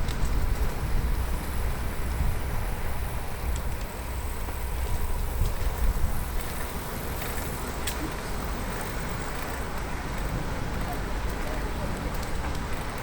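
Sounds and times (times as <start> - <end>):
bicycle tyre noise: 0.0 - 13.0
faint bike ticks: 0.0 - 13.0
wind rumble on microphone: 0.0 - 13.0.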